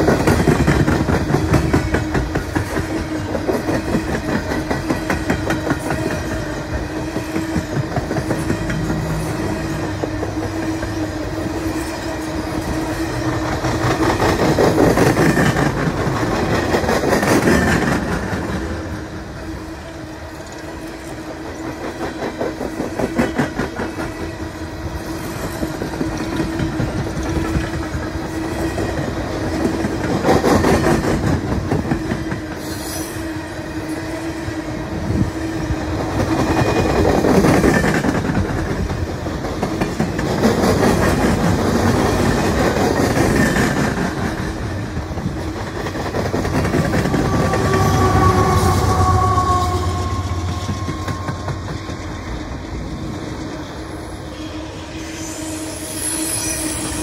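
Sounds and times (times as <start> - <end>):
constant drone: 0.0 - 31.9, 33.5 - 56.0
train wheels clicking over rail joints: 0.0 - 33.2, 35.0 - 49.3, 49.9 - 53.9.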